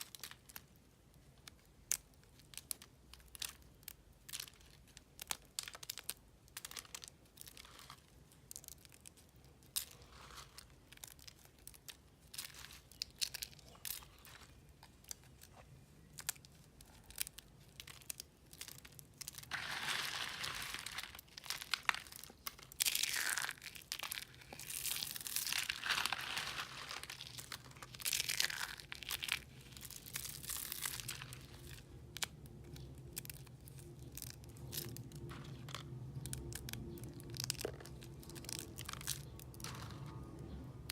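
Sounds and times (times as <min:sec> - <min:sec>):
dry soap crunching: 0:00.0 - 0:40.9.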